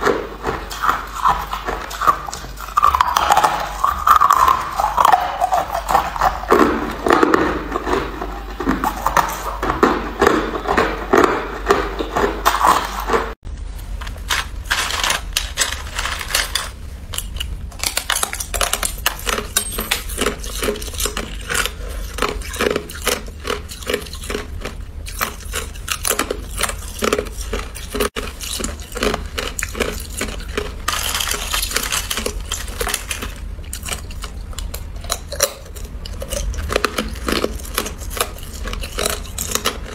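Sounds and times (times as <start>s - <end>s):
ice crunching between teeth: 0.0s - 13.3s, 14.0s - 39.9s.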